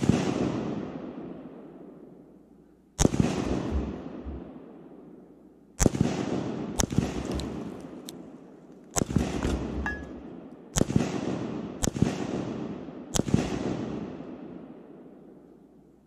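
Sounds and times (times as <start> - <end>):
rifle shots with rolling echo: 0.0 - 2.4, 3.0 - 15.6.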